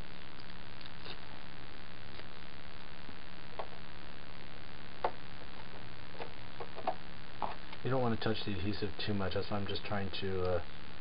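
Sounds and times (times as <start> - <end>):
low hum: 0.0 - 11.0
steady hiss: 0.0 - 11.0.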